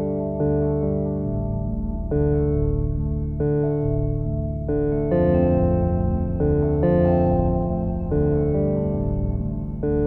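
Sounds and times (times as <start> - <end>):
synthesizer chords: 0.0 - 10.0.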